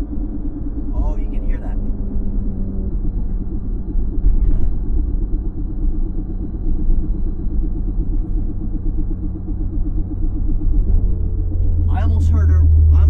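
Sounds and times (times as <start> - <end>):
low droning rumble with warble: 0.0 - 13.0.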